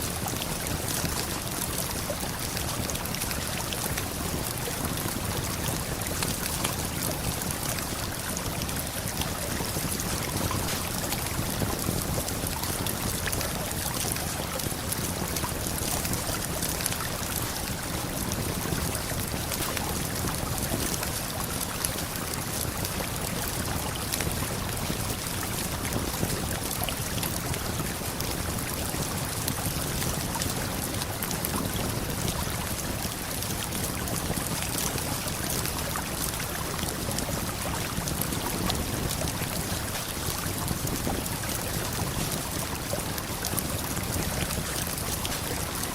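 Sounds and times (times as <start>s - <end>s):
waterfall and flowing river: 0.0s - 45.9s.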